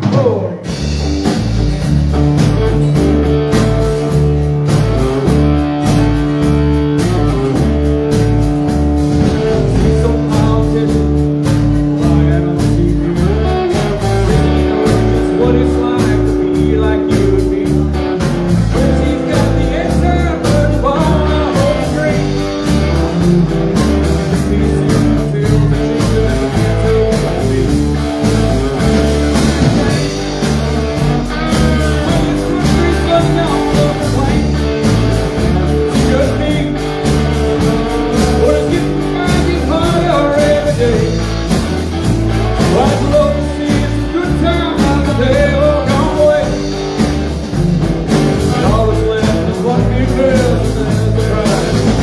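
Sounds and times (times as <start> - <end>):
live band playing blues rock: 0.0 - 52.0.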